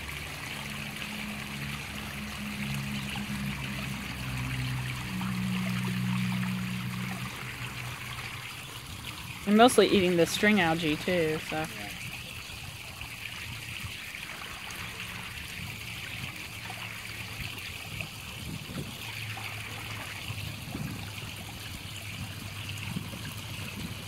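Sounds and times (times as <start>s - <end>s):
low steady hum: 0.0s - 24.0s
water trickling: 0.0s - 24.0s.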